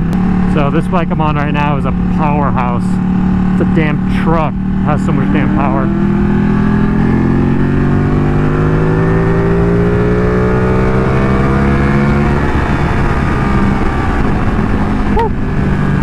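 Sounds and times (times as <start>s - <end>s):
motorcycle engine under throttle: 0.0s - 16.0s
wind rush on microphone: 3.0s - 16.0s.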